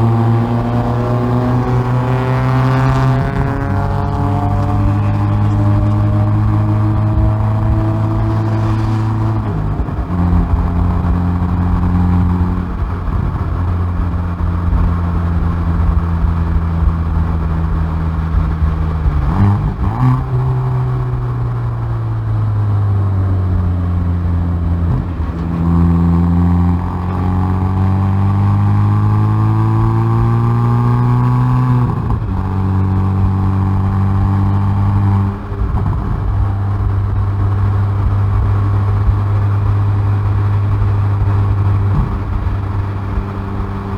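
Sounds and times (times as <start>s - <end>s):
car exhaust note: 0.0s - 43.9s.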